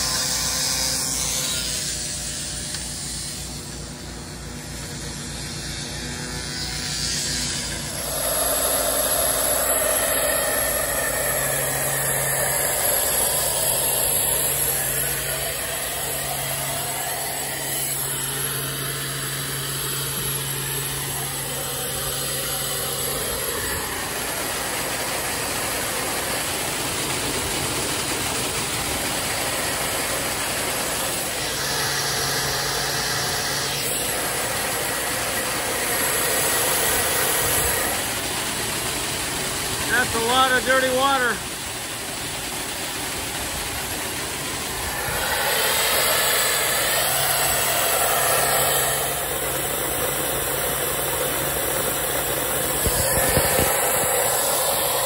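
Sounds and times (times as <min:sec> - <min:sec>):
engine running steadily: 0:00.0 - 0:55.0
pressure washer hiss: 0:00.0 - 0:55.0.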